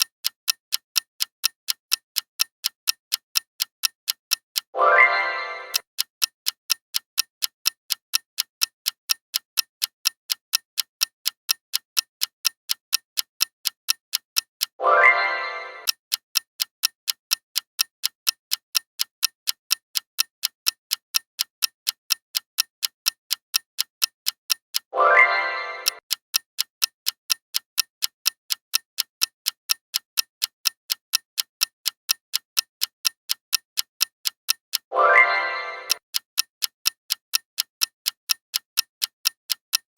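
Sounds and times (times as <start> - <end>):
clock ticking rapidly: 0.0 - 39.9.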